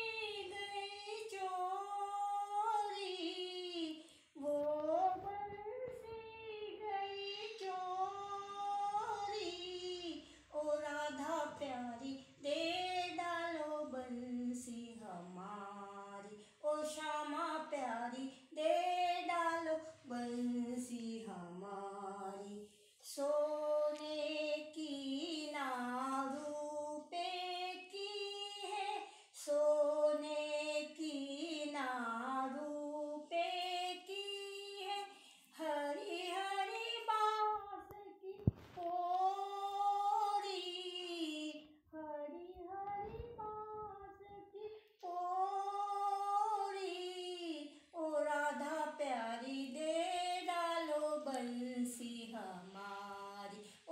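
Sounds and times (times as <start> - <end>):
woman singing unaccompanied: 0.0 - 53.9.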